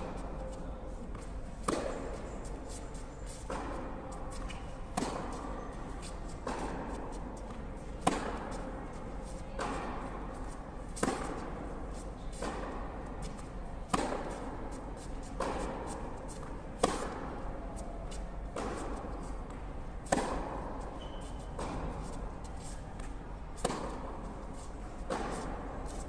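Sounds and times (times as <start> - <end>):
racket hitting tennis ball: 0.0 - 26.0.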